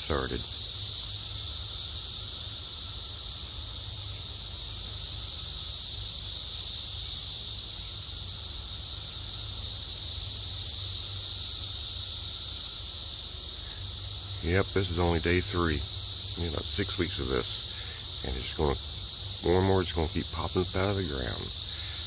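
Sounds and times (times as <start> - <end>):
cicadas droning buzz: 0.0 - 22.0.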